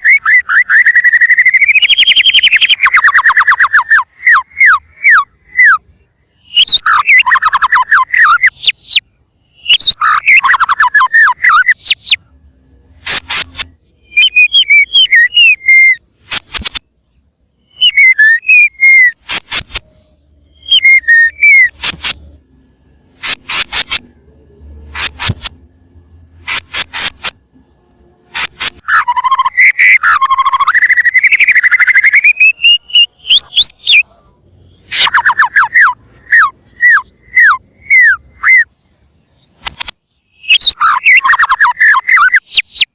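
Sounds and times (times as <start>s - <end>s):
bird singing whistled notes: 0.0s - 42.9s.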